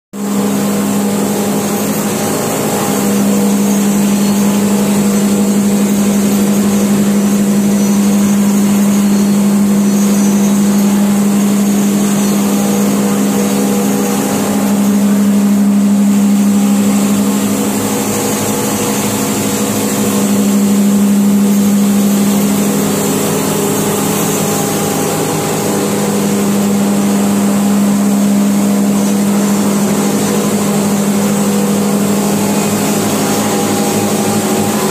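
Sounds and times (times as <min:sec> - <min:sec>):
spice pulverizer humming: 0:00.2 - 0:34.9.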